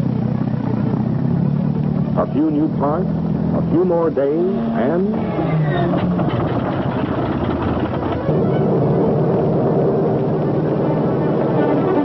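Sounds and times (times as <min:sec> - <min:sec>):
heavy engines rumbling: 0:00.0 - 0:12.0.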